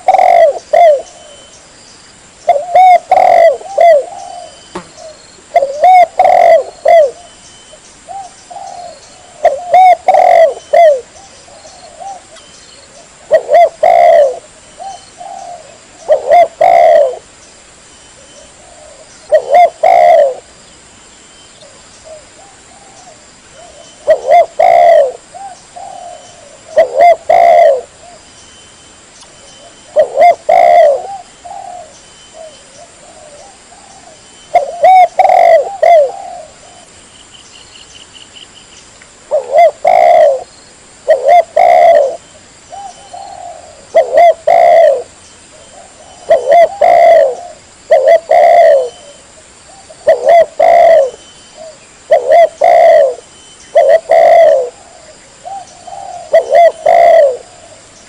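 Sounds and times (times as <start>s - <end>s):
dove cooing: 0.0s - 1.5s, 2.4s - 7.4s, 8.1s - 17.3s, 18.2s - 20.5s, 21.6s - 28.2s, 29.6s - 36.9s, 39.3s - 57.9s.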